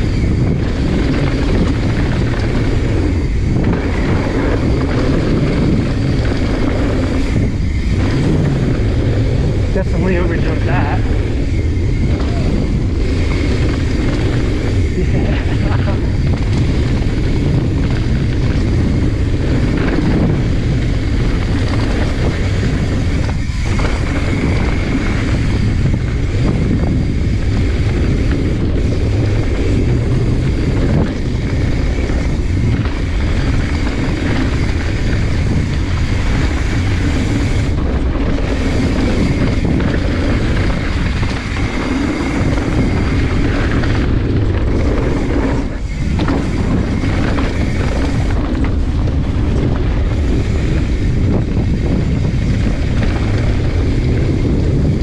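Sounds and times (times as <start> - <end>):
bike tyres rumbling over dirt: 0.0 - 55.0
wind rush on microphone: 0.0 - 55.0.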